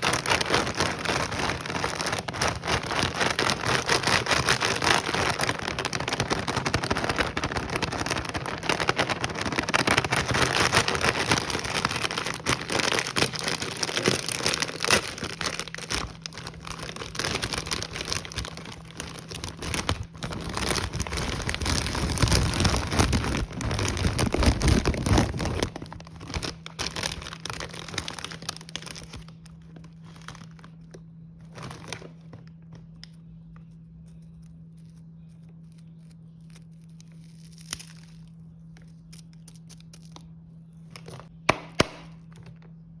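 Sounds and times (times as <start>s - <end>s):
snack packaging crinkling: 0.0s - 40.3s.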